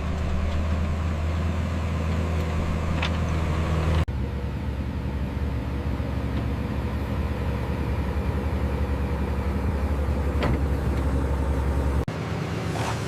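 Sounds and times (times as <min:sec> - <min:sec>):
diesel construction machine engine running: 0:00.0 - 0:13.0.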